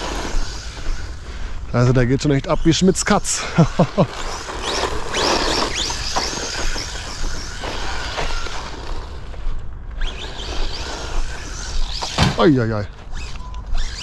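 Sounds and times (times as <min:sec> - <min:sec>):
electric motor whining: 0:00.0 - 0:01.7, 0:03.5 - 0:14.0
tyres and drivetrain on grass: 0:00.0 - 0:14.0.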